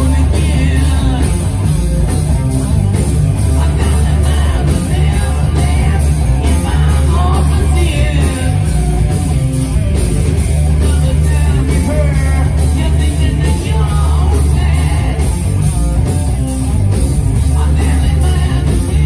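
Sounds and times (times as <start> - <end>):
distorted electric guitars: 0.0 - 19.0
drums: 0.0 - 19.0.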